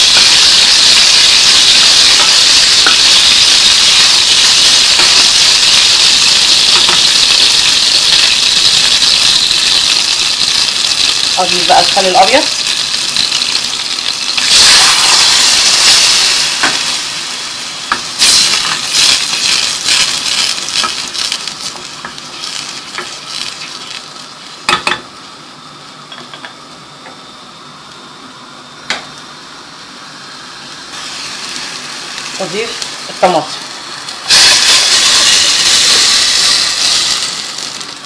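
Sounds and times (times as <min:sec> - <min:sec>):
loud sizzle in a pot: 0:00.0 - 0:38.0.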